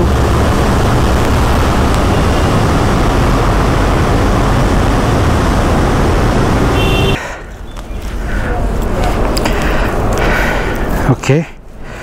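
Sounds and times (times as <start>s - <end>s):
low rumble: 0.0s - 11.7s
wind and road noise: 0.0s - 12.0s.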